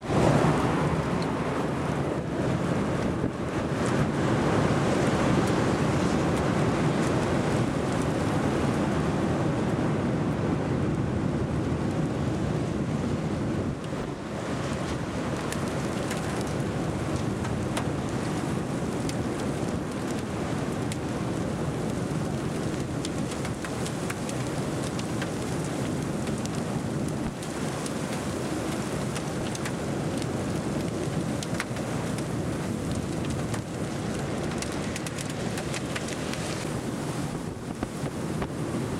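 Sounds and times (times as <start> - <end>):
steady rain: 0.0 - 10.6, 11.4 - 38.9
strong wind buffeting microphone: 0.0 - 38.9.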